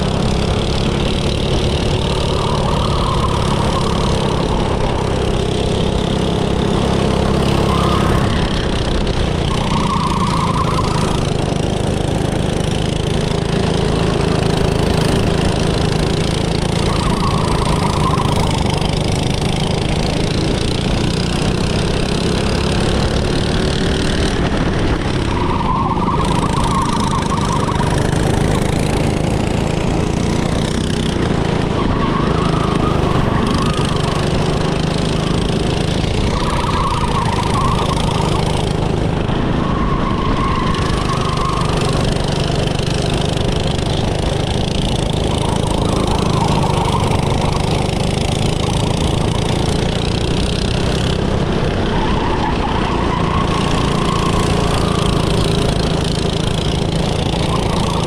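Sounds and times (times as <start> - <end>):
go-kart engine running: 0.0 - 58.0
high engine whine: 0.0 - 58.0.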